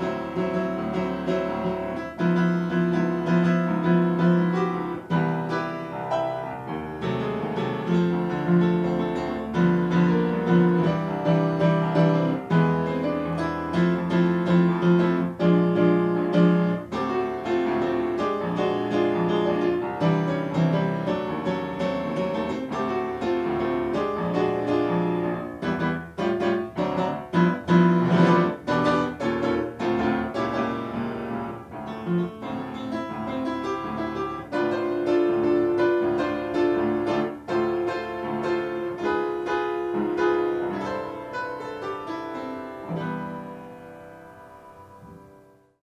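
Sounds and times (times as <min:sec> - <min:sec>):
solo piano: 0:00.0 - 0:45.8.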